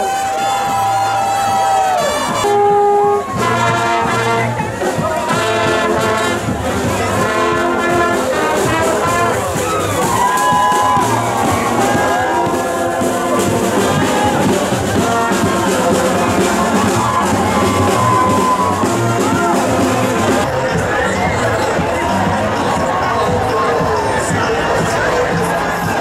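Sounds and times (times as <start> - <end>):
brass band playing: 0.0 - 23.0
crowd noise: 0.0 - 26.0.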